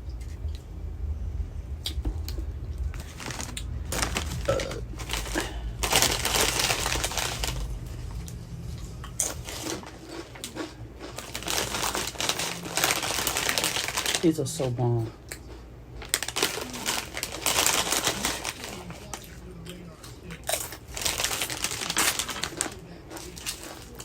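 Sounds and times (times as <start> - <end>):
chips being chewed: 1.8 - 14.5, 15.2 - 24.0
chip bag crinkling: 2.9 - 14.9, 16.0 - 24.0.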